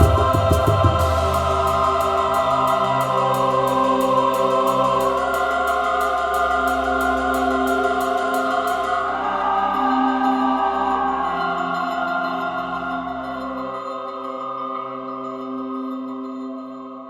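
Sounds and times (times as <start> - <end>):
ambient drone music: 0.0 - 17.0.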